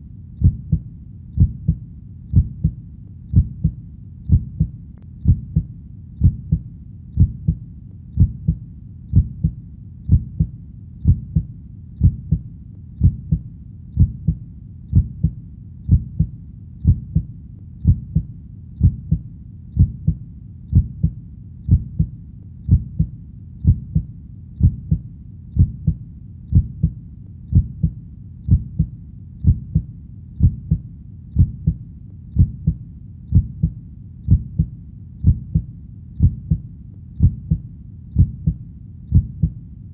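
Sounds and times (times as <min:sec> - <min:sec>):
heartbeat thuds: 0:00.4 - 0:39.6.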